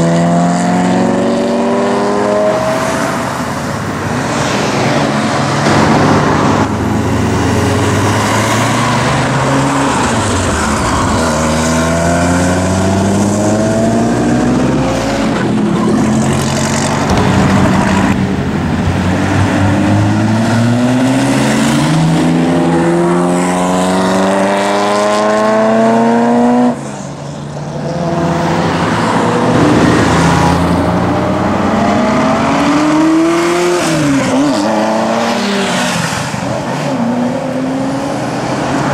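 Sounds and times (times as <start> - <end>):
sports car engines accelerating hard: 0.0 - 38.9.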